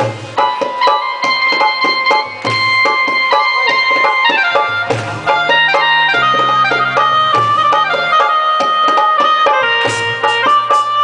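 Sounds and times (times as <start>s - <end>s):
instrumental folk music: 0.0s - 11.0s
long held melody notes: 0.9s - 11.0s.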